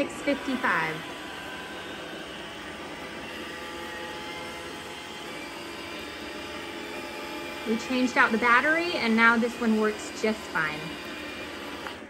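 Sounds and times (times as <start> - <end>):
robot vacuum whirring: 0.0 - 12.0.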